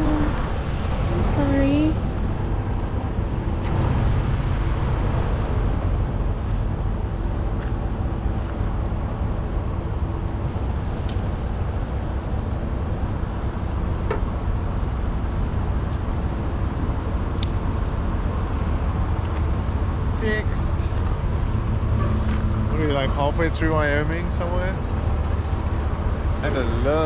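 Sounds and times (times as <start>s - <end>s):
road vehicle rumble: 0.0s - 27.0s.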